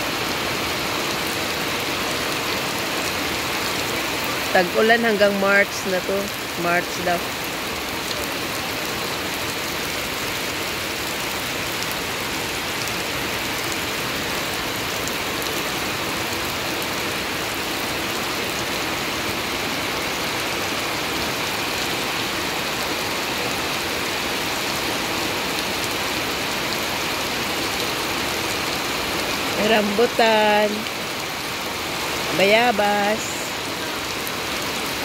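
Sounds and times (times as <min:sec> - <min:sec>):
rain falling on grass and puddles: 0:00.0 - 0:35.0.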